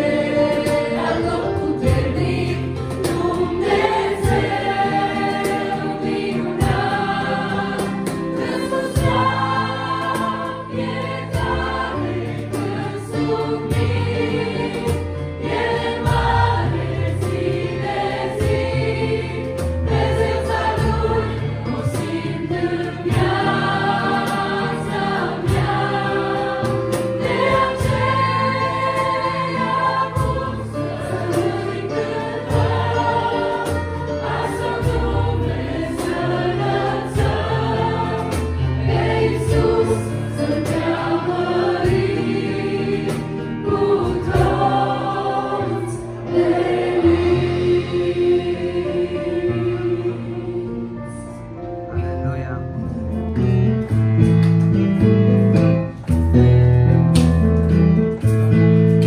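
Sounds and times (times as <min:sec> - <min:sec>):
cajon beat: 0:00.0 - 0:48.3, 0:53.9 - 0:59.0
group singing worship song: 0:00.0 - 0:51.5.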